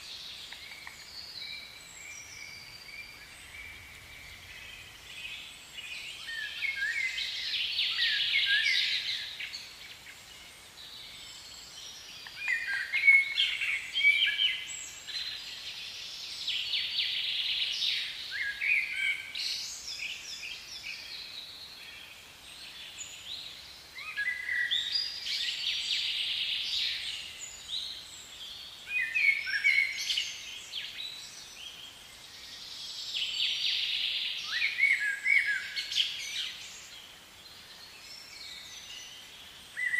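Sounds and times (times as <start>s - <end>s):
faint steady hiss: 0.0s - 39.9s
songbirds chirping: 0.0s - 39.9s.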